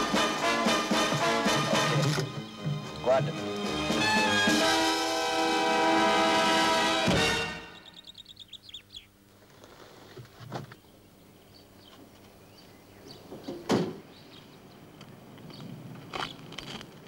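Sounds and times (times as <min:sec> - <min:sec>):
birds chirping: 0:00.5 - 0:09.3, 0:10.6 - 0:16.7.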